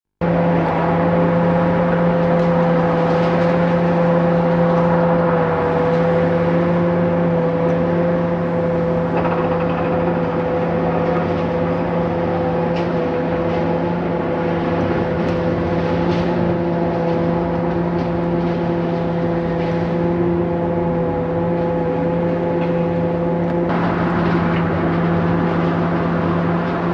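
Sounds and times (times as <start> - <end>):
steady mechanical hum: 0.2 - 26.9.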